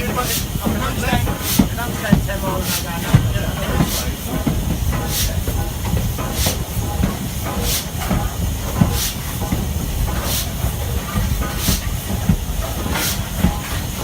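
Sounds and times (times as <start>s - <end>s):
rumble of engine and train: 0.0s - 14.0s
steam locomotive chuffing: 0.0s - 14.0s.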